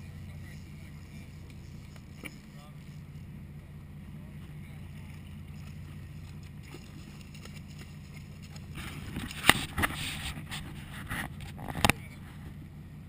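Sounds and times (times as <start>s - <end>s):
boat engine humming: 0.0s - 13.0s
water splashing along hull: 0.0s - 13.0s.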